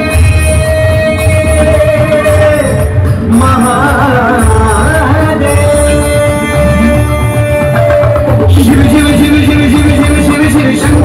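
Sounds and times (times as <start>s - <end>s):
devotional music over loudspeakers: 0.0s - 11.0s.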